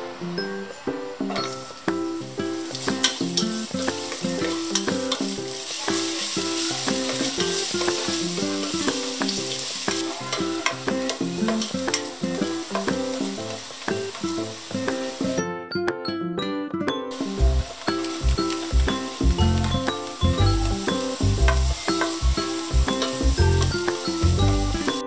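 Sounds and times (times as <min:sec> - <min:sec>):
ginger sizzling in hot oil: 0:01.4 - 0:15.4, 0:17.2 - 0:25.0.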